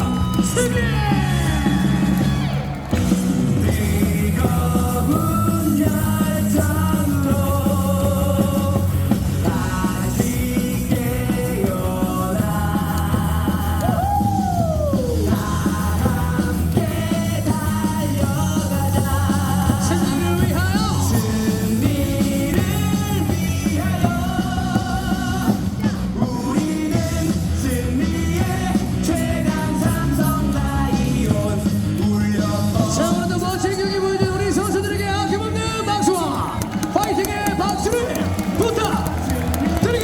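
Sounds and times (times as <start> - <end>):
rock song with singer: 0.0 - 40.0.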